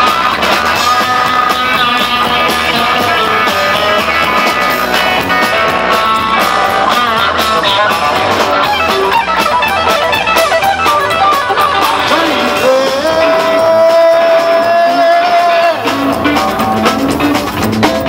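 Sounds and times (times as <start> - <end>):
electric guitar lead runs: 0.0 - 18.0
live rock and roll band: 0.0 - 18.0.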